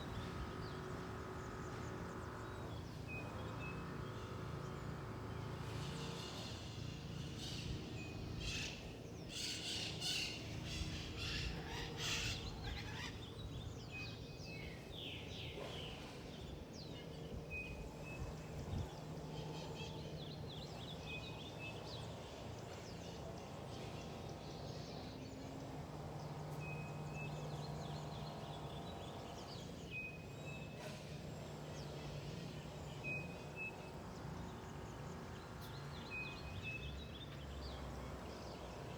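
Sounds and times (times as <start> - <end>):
birds chirping rapidly: 0.0 - 38.9.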